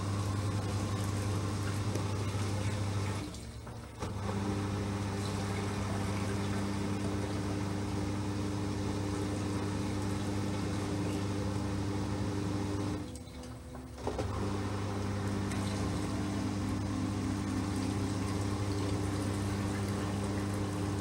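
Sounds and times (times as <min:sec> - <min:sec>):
washing machine motor running: 0:00.0 - 0:21.0.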